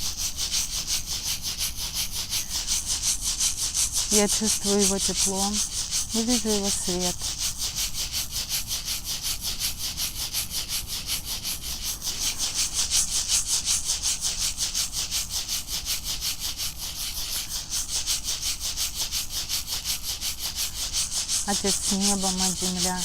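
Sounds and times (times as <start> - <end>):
rattle shaken rhythmically: 0.0 - 23.0.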